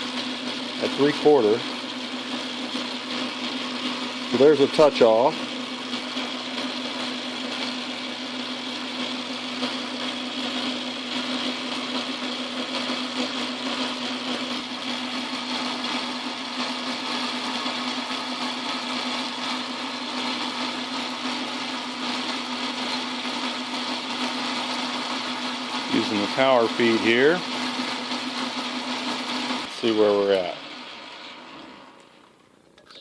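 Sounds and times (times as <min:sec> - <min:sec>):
metal lathe humming: 0:00.0 - 0:32.3.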